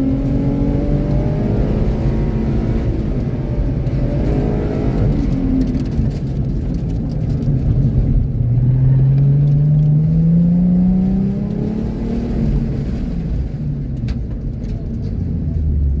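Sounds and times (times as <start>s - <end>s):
car engine from inside cabin: 0.0s - 16.0s.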